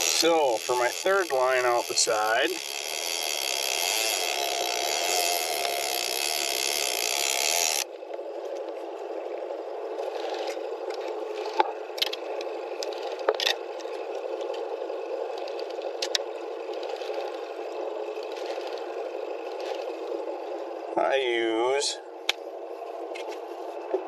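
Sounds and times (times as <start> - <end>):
fishing tackle clicks and scrapes: 0.0 - 20.8, 22.2 - 23.9
steady low hiss: 0.0 - 24.0.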